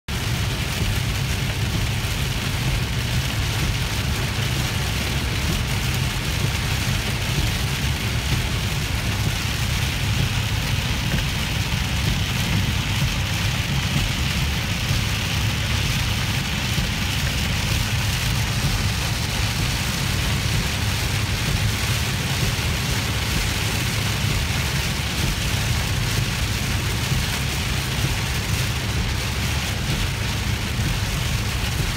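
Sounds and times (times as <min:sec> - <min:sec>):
heavy rain on car: 0:00.1 - 0:31.9
low road rumble: 0:00.1 - 0:31.9.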